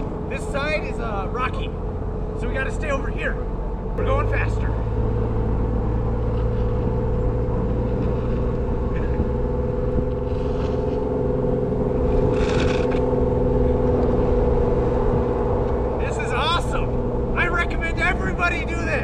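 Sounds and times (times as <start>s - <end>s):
car engine drone: 0.0s - 19.0s.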